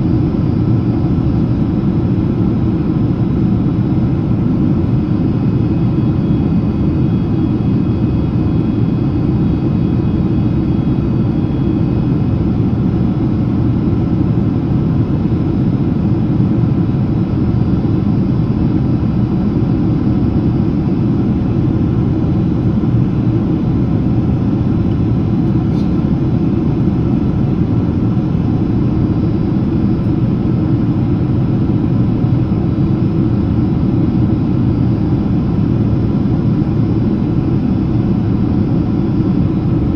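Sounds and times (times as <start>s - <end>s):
airflow and engine drone: 0.0s - 39.9s.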